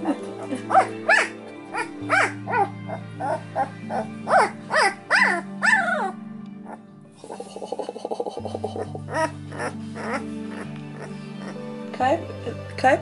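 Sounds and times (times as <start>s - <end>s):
puppies crying: 0.0s - 11.7s
background music low notes: 0.0s - 13.0s.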